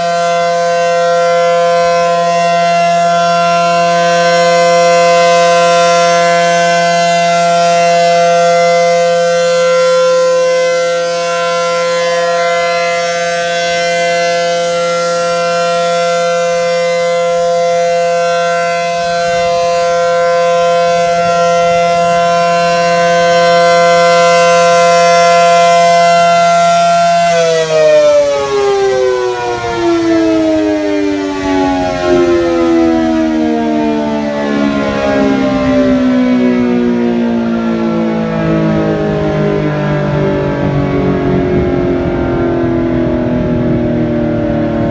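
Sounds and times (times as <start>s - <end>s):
tornado warning siren wailing: 0.0s - 44.9s.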